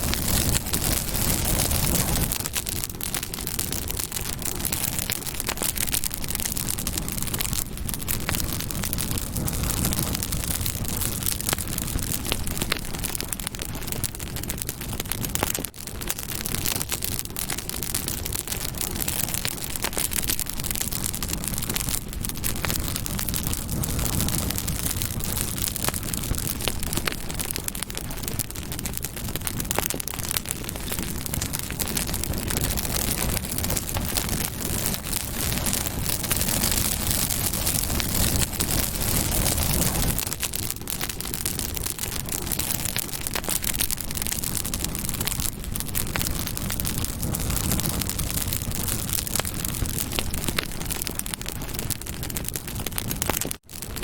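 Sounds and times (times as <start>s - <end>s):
low rush of flames: 0.0s - 54.0s
wood crackling and popping: 0.0s - 54.0s.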